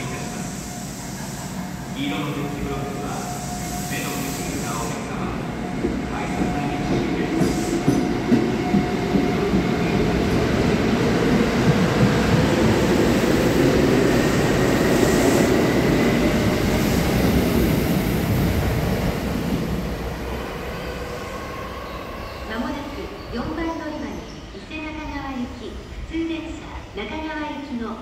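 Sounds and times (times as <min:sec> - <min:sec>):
electric train accelerating past: 0:00.0 - 0:24.5.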